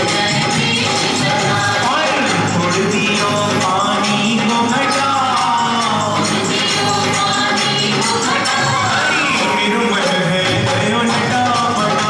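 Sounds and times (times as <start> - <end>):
percussion: 0.0 - 12.0
song with singing: 0.0 - 12.0.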